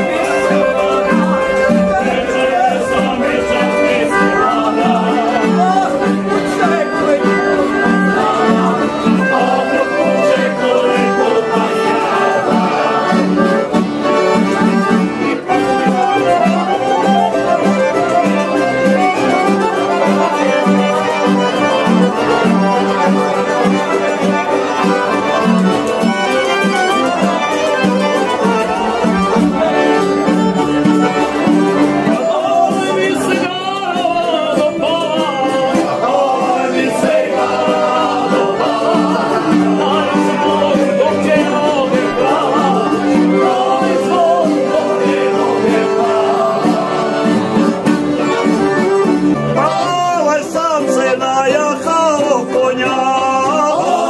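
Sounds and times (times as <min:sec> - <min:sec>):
men singing along: 0:00.0 - 0:18.8, 0:19.4 - 0:48.7, 0:49.3 - 0:54.0
folk accordions and lutes: 0:00.0 - 0:54.0
guitar playing lively tune: 0:00.0 - 0:54.0.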